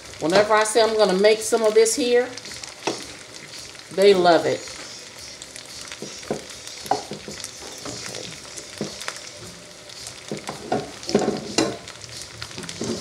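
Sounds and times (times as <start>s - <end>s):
oil sizzling in a frying pan: 0.0s - 13.0s.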